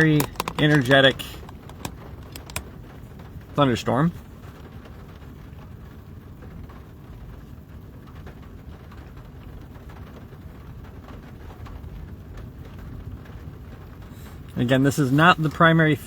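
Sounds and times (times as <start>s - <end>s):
heavy rain pattering on car: 0.0s - 16.0s
low rumble inside car: 0.0s - 16.0s.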